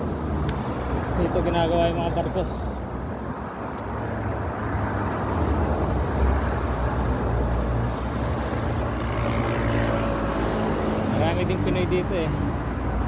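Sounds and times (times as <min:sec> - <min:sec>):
passing traffic rumble: 0:00.0 - 0:13.0
wind: 0:00.0 - 0:13.0.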